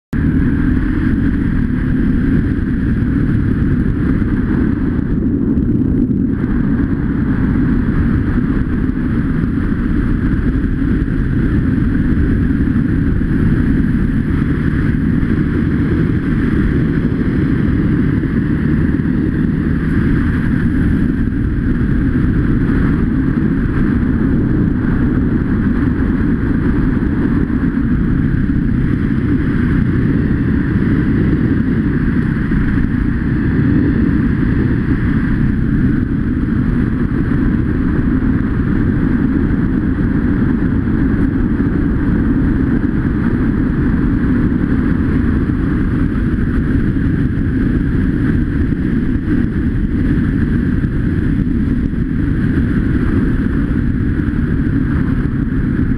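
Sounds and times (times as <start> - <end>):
dirt bike engine running: 0.1 - 55.9
wind rushing over microphone: 0.1 - 55.9.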